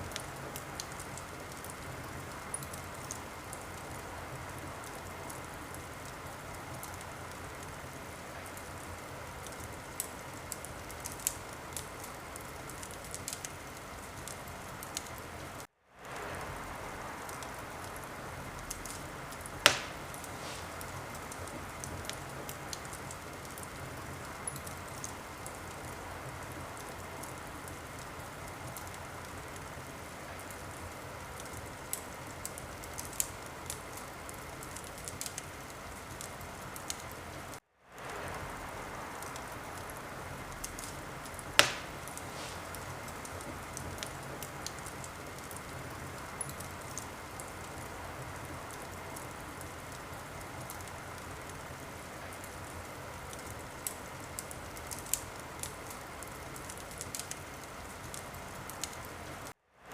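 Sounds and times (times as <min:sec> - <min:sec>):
fire hissing: 0:00.0 - 0:58.1
fire crackling and popping: 0:00.0 - 0:59.6.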